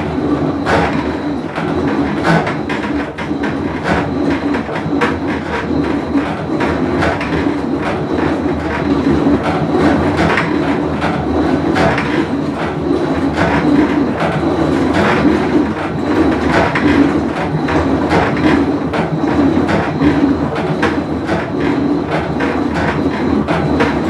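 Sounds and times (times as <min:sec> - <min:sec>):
washing machine rumbling: 0:00.0 - 0:24.0.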